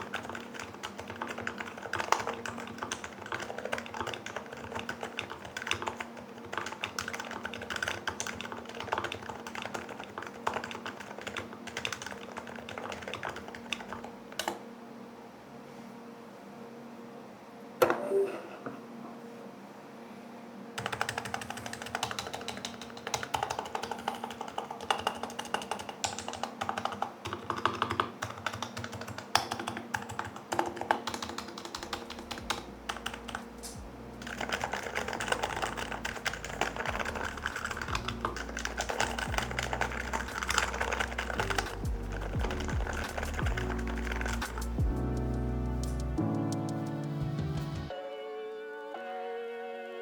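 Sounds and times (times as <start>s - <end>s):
keyboard typing: 0.0s - 14.7s, 20.8s - 47.9s.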